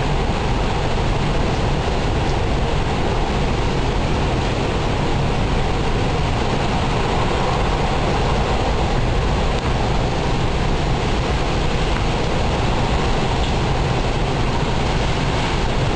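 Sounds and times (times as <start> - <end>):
deep rumble: 0.0 - 15.9
strong wind blowing: 0.0 - 15.9.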